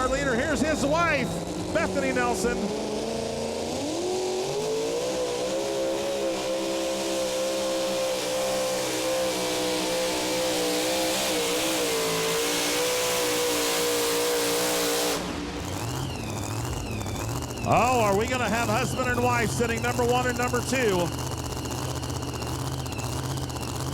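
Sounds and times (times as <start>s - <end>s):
truck engine at full throttle: 0.0s - 23.9s.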